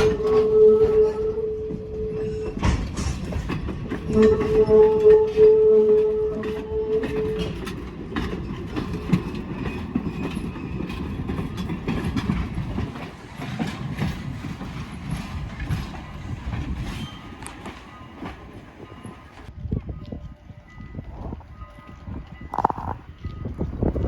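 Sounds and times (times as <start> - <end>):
train wheels clicking over rail joints: 0.0 - 19.5.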